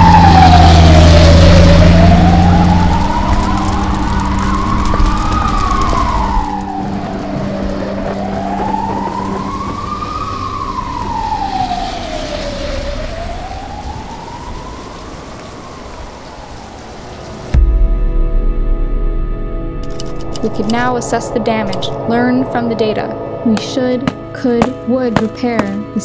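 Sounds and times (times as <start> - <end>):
emergency siren wailing: 0.0 - 17.6, 19.8 - 24.9
crackling noise: 0.0 - 18.6, 19.6 - 24.4.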